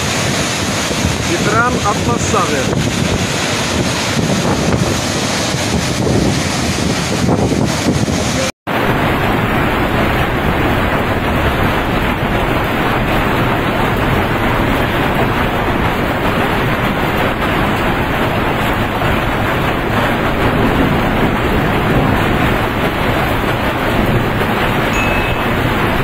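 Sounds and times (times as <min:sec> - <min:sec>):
floodwater rushing over rocks: 0:00.0 - 0:26.0
heavy downpour with hail: 0:00.0 - 0:26.0.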